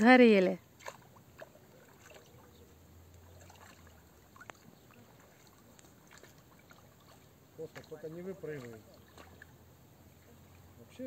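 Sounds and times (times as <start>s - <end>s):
oars dipping and dripping: 0.0s - 11.0s.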